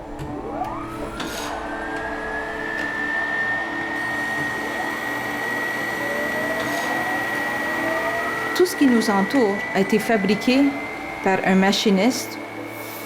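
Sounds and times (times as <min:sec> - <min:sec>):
electric motor whine: 0:00.0 - 0:13.0
low hum: 0:00.0 - 0:13.0.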